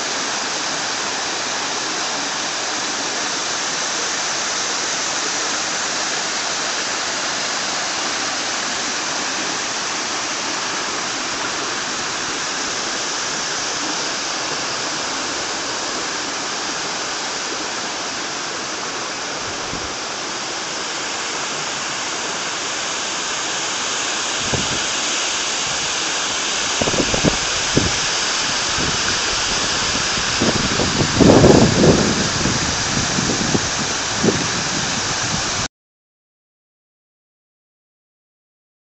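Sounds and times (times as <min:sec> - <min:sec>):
small waterfall splashing: 0:00.0 - 0:35.7.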